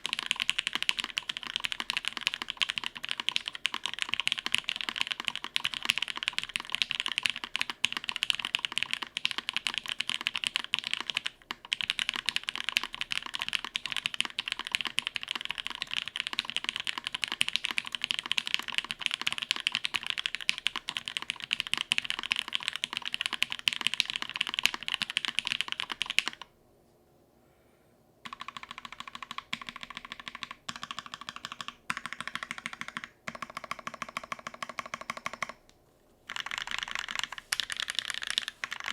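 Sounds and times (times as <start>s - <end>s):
typing on mechanical keyboard: 0.0s - 26.5s, 28.2s - 35.6s, 36.3s - 38.9s.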